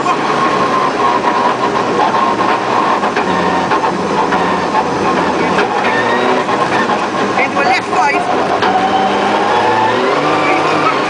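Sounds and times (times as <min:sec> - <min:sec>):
car engine under load: 0:00.0 - 0:11.0
tyre and road noise: 0:00.0 - 0:11.0.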